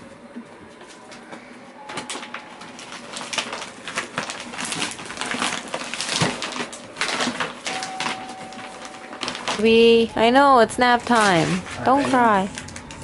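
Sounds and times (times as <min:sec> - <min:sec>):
plastic wrapping rustling and crinkling: 0:01.9 - 0:13.0.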